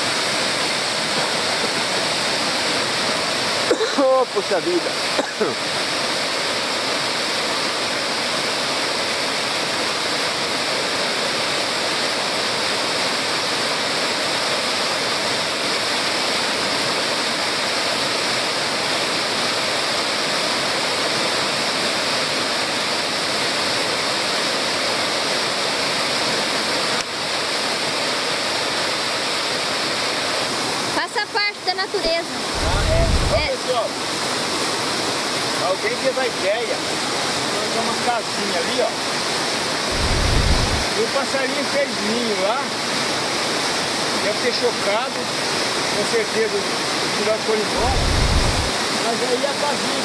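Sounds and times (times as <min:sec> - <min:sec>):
waterfall splashing onto rocks: 0:00.0 - 0:50.0.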